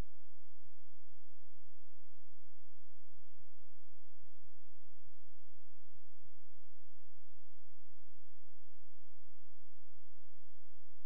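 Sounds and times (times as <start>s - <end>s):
faint hiss: 0.0s - 11.0s
low electrical hum: 0.0s - 11.0s.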